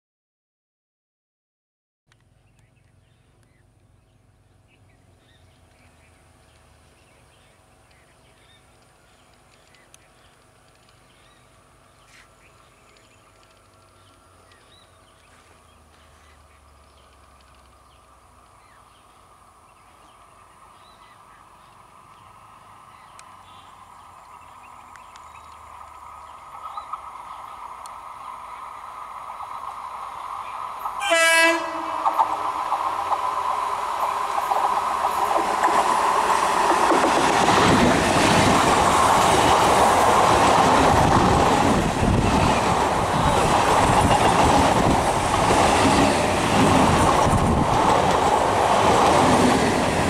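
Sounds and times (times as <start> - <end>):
electric train hum: 2.1 - 50.0.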